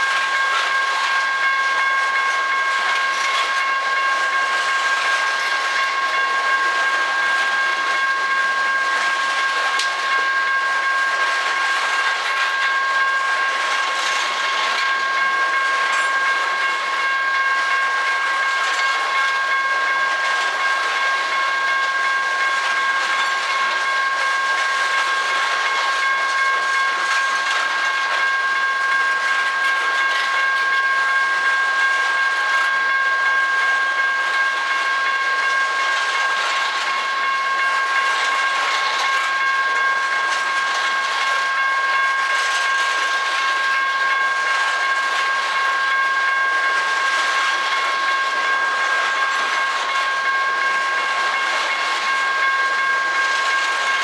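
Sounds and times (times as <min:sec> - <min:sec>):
high ringing tone: 0:00.0 - 0:54.0
train wheels on rails: 0:00.0 - 0:54.0.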